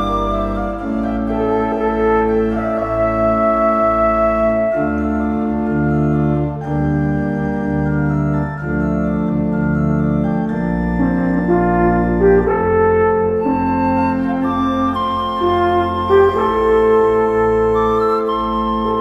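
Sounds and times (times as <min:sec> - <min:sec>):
organ-like keyboard chords: 0:00.0 - 0:19.0.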